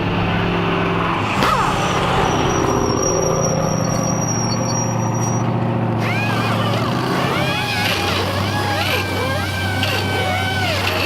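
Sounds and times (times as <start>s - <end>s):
thin high whine: 0.0s - 11.0s
truck engine running: 0.0s - 11.0s
short squeaks: 2.1s - 11.0s.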